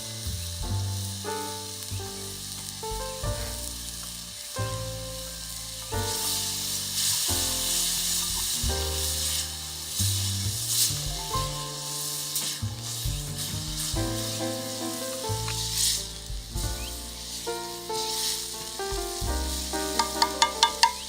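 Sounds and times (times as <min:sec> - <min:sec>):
background music with held notes: 0:00.0 - 0:21.0
food sizzling in hot fat: 0:00.0 - 0:21.0.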